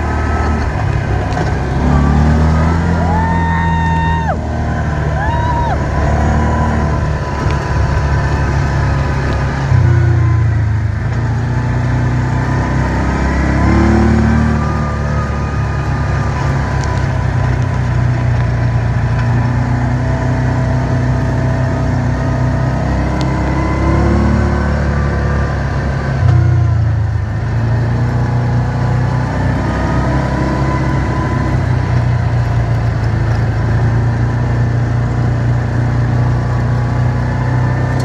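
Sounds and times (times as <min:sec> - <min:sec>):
off-road vehicle engine rumbling: 0:00.0 - 0:38.0.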